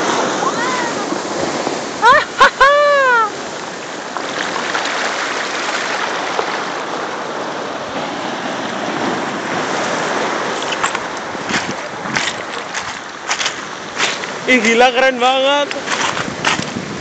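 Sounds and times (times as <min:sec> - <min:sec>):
surf washing over pebbles: 0:00.0 - 0:17.0.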